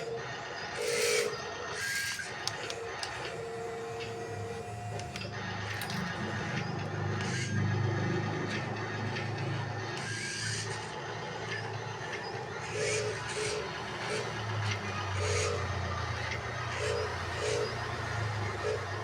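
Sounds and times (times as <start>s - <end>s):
hydraulic whirring bursts: 0.0s - 19.0s
low motor hum: 0.0s - 19.0s.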